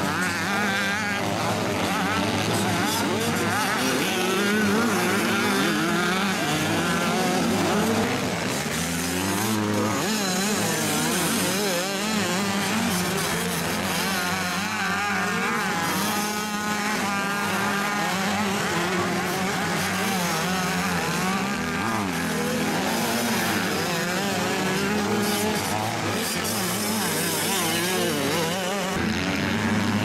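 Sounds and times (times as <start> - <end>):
motocross engines revving: 0.0 - 30.0.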